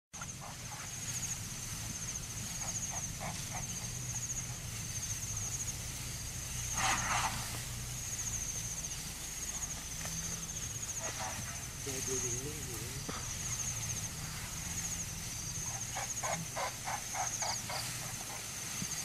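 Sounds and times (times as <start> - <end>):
insects buzzing: 0.2 - 19.0.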